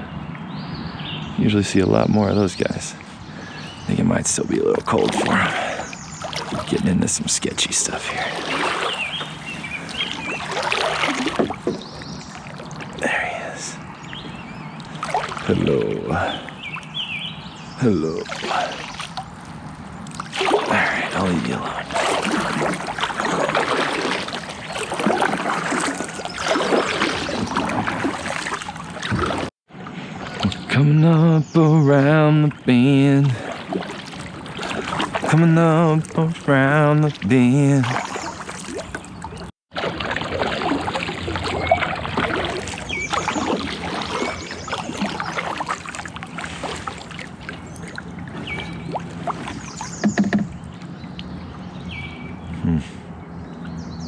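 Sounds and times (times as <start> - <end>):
birds chirping: 0.0 - 39.5, 40.5 - 54.0
water washing: 4.2 - 17.2, 17.8 - 29.6, 30.3 - 50.6
paddle strokes splashing: 4.8 - 30.6, 32.6 - 50.8.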